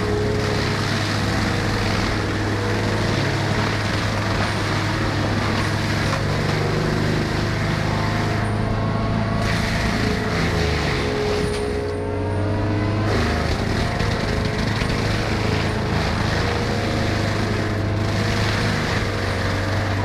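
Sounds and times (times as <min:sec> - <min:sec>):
heavy machine engine rumbling: 0:00.0 - 0:20.0.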